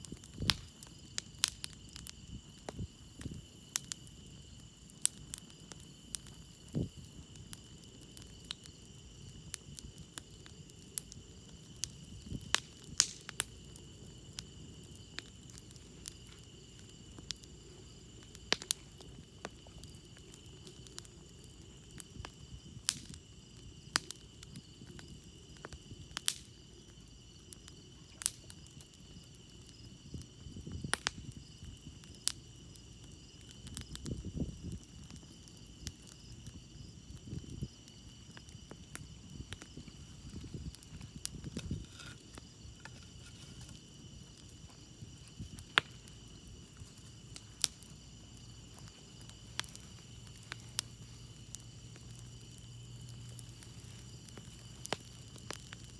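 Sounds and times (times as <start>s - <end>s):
campfire crackling: 0.0s - 55.9s
crickets trilling: 0.0s - 55.9s.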